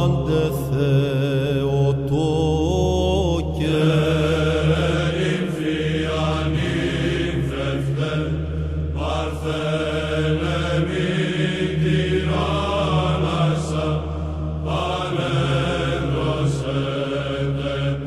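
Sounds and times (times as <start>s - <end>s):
chanted vocal melody: 0.0s - 18.0s
low held vocal drone: 0.0s - 18.0s.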